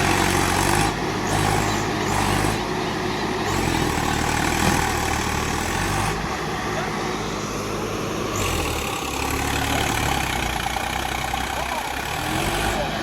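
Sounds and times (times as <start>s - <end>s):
tractor diesel engines running: 0.0s - 13.0s.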